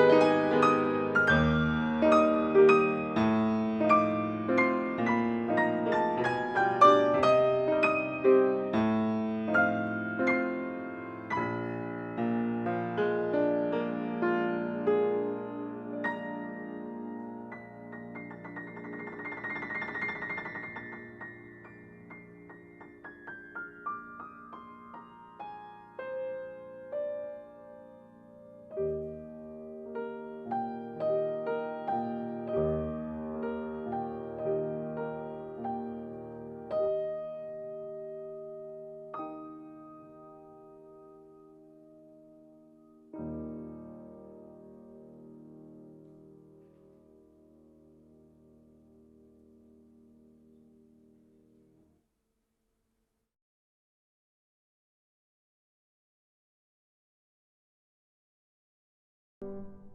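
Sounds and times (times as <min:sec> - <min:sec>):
gentle solo piano tune: 0:00.0 - 0:51.5, 0:59.4 - 0:59.9.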